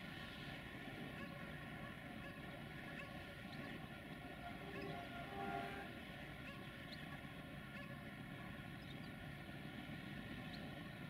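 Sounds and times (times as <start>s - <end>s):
distant trains running: 0.0s - 11.0s.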